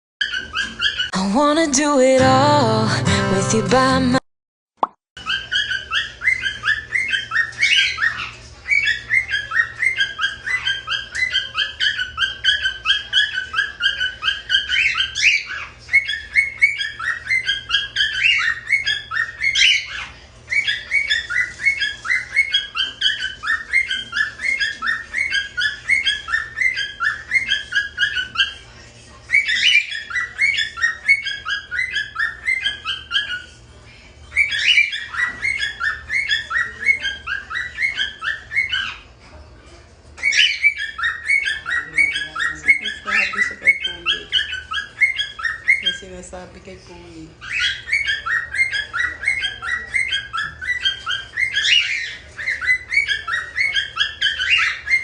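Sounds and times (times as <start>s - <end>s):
cockatiels chirping rapidly: 0.2s - 1.1s, 5.2s - 39.5s, 40.1s - 55.0s.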